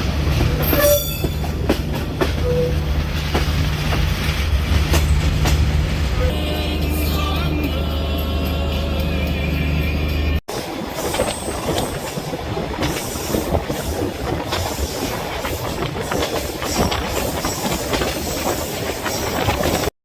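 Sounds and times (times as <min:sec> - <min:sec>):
train clacks and rattles: 0:00.0 - 0:19.9
train rumbling on track: 0:00.0 - 0:19.9.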